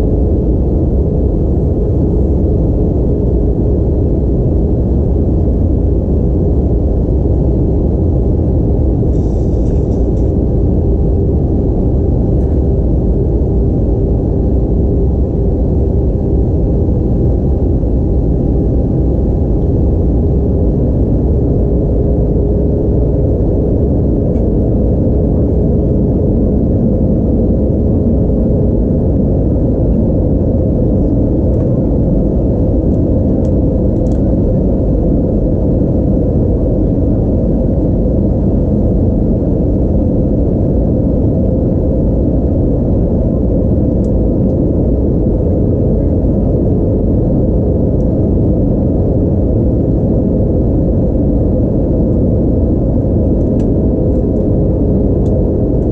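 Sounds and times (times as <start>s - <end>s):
airplane cabin roar: 0.0s - 55.9s
faint steady hum: 0.0s - 55.9s
jet engines: 0.0s - 55.9s
rushing airflow: 1.2s - 55.9s.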